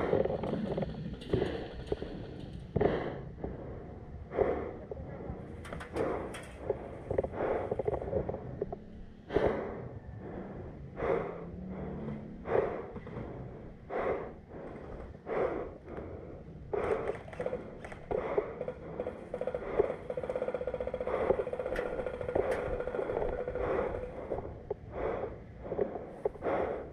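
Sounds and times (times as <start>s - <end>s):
person breathing heavily: 0.0s - 26.9s.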